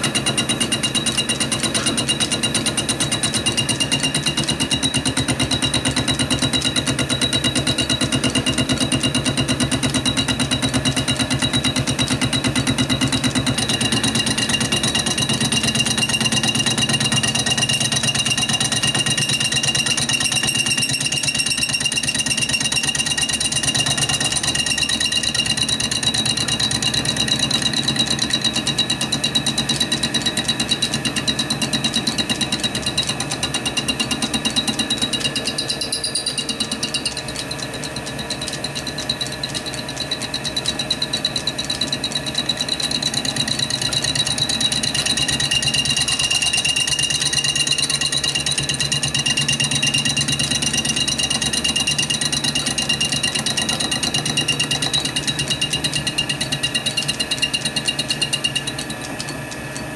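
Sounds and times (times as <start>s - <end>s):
lathe cutting metal rattle: 0.0s - 59.9s.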